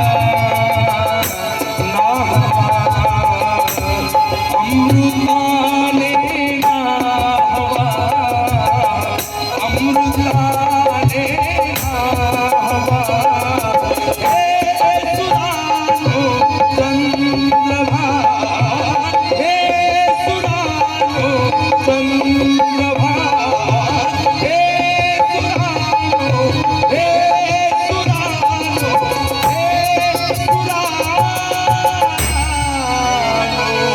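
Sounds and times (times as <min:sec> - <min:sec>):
sustained melody line: 0:00.0 - 0:33.9
tabla rhythm: 0:00.0 - 0:33.9.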